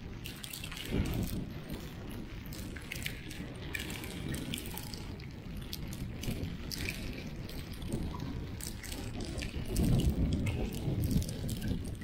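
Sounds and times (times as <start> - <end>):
sharp crackles and clicks: 0.0 - 12.0
wind buffeting microphone: 0.0 - 12.0.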